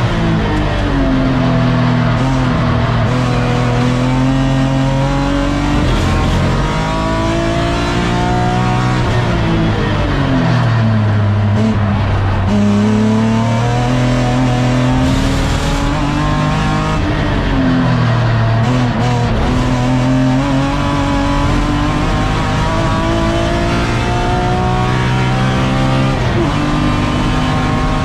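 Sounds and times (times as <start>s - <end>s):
race car engine at speed: 0.0s - 28.0s.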